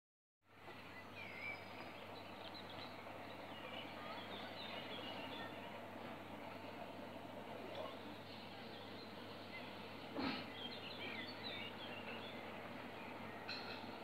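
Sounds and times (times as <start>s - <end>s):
small birds chirping and singing: 0.7s - 14.0s.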